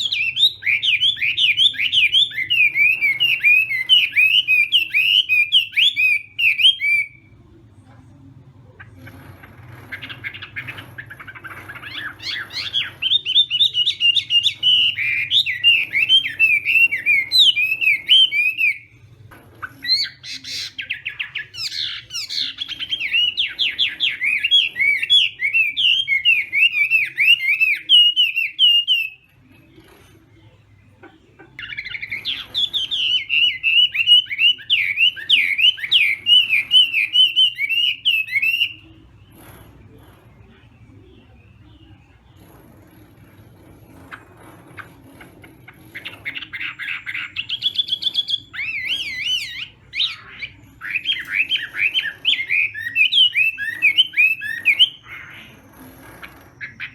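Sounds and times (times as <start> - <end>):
bird warbling song: 0.0 - 7.4, 8.8 - 56.9.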